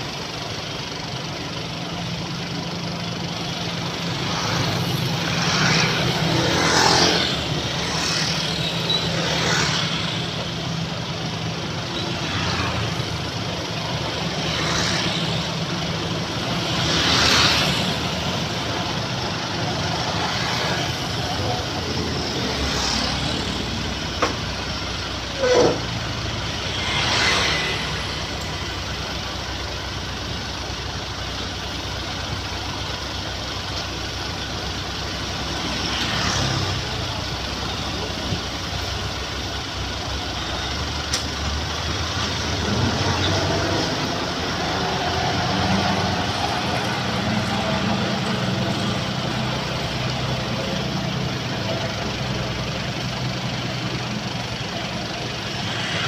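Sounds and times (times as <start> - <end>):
diesel truck engines rumbling: 0.0 - 56.0.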